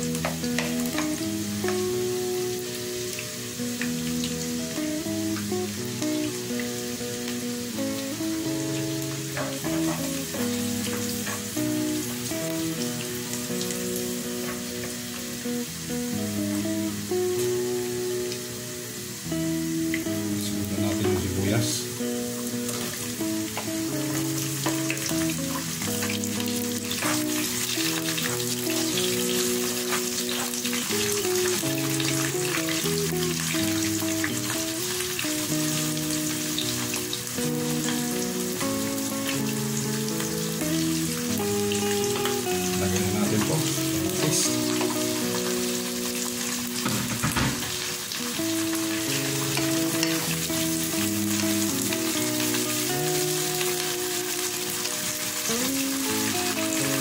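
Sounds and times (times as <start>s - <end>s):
background music: 0.0s - 57.0s
onion sizzling in hot oil: 0.0s - 57.0s.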